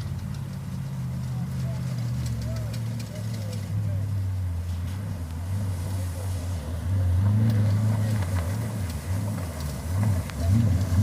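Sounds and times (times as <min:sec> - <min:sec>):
racing engine revving: 0:01.3 - 0:11.0.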